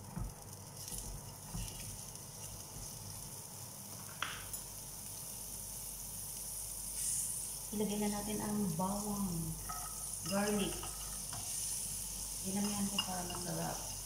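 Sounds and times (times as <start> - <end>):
butter sizzling in frying pan: 0.0 - 14.0.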